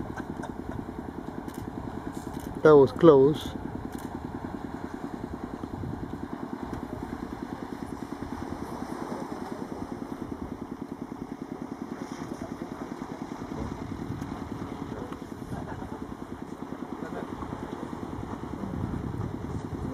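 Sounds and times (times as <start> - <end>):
engine chugging: 0.0 - 19.9.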